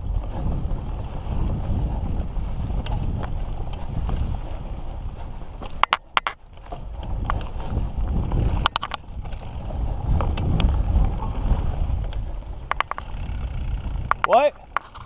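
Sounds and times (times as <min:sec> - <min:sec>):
bike clicks and clatters: 0:00.0 - 0:04.5, 0:05.1 - 0:15.0
wind rumbling over microphone: 0:00.0 - 0:15.0.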